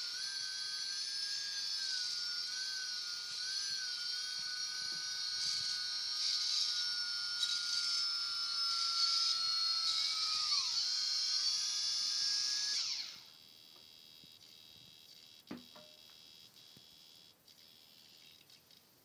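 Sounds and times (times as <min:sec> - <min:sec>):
servos whining: 0:00.0 - 0:18.9.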